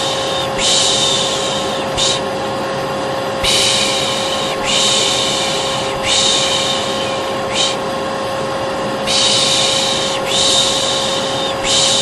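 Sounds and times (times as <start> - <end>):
person shushing: 0.0 - 2.3, 3.4 - 7.9, 9.0 - 12.0
hair dryer humming: 0.0 - 12.0.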